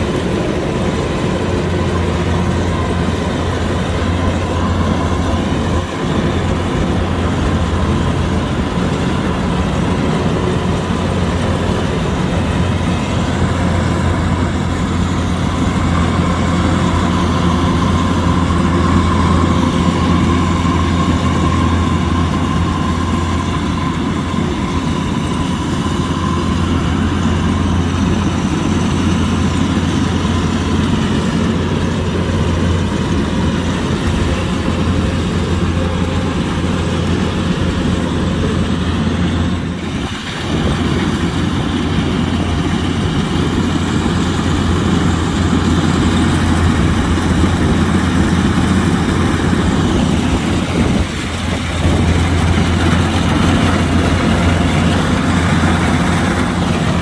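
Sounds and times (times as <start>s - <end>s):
combine harvester engine droning: 0.0s - 57.0s
high machinery whine: 0.0s - 57.0s.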